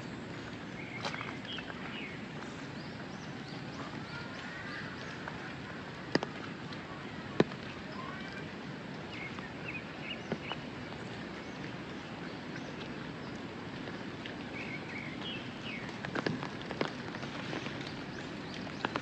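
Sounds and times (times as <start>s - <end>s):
birds chirping: 0.0s - 5.9s, 7.4s - 19.0s.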